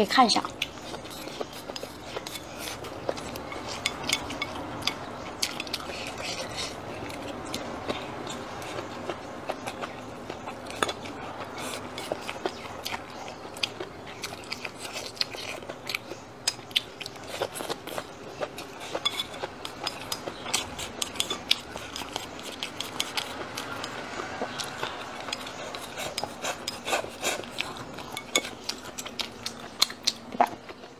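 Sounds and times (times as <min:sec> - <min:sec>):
chewing and biting: 0:00.4 - 0:30.9.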